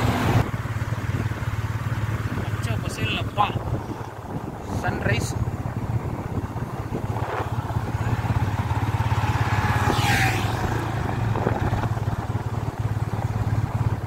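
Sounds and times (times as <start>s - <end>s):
motorcycle engine cruising: 0.0s - 14.0s
road and wind noise: 0.0s - 14.0s.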